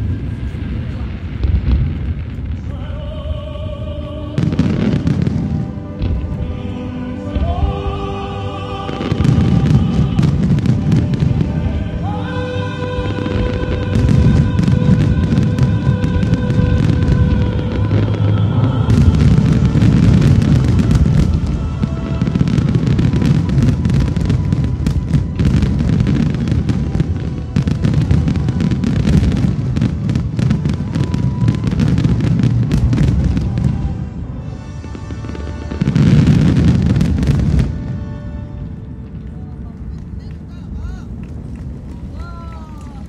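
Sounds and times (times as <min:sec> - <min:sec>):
music: 0:00.0 - 0:42.1
fireworks booming and crackling: 0:00.0 - 0:43.0.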